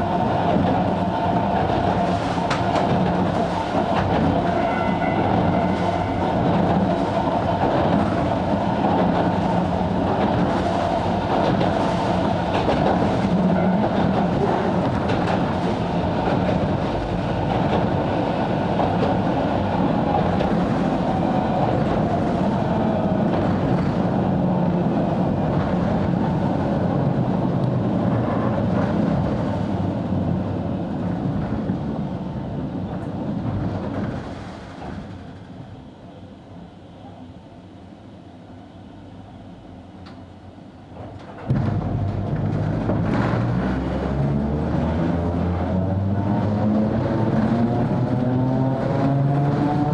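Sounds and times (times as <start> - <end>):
clickety-clack over rail joints: 0.0 - 35.6, 40.9 - 49.9
wheels rumbling on rail: 0.0 - 49.9.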